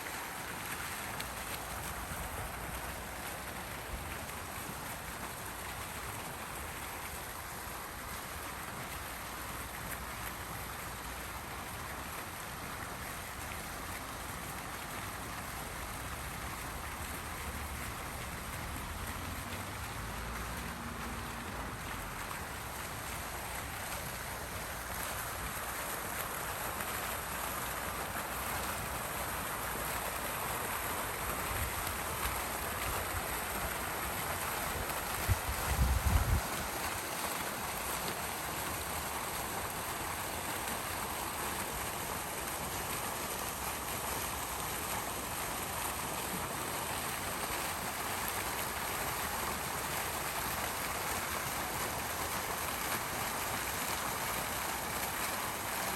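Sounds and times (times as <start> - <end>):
water fountain splashing: 0.0 - 55.9.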